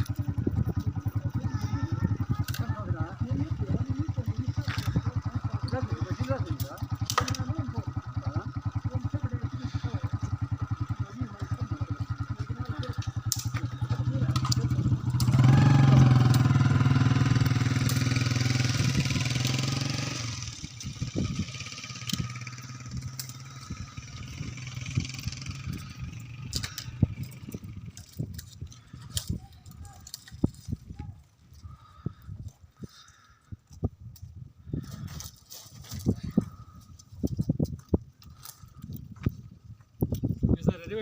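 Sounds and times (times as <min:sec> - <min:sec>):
small petrol engine idling and revving: 0:00.0 - 0:33.5, 0:34.6 - 0:41.0.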